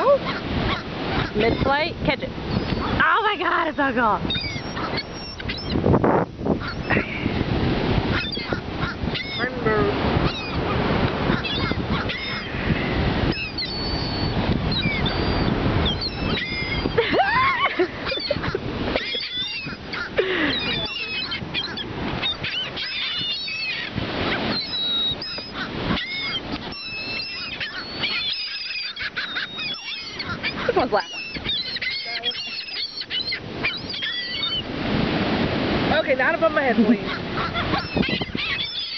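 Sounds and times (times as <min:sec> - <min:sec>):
seagulls squawking: 0:00.0 - 0:34.8, 0:35.9 - 0:38.9.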